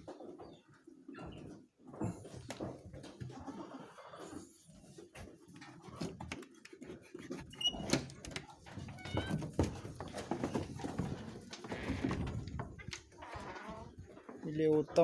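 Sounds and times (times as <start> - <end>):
animals knocking and shuffling: 0.0 - 15.0.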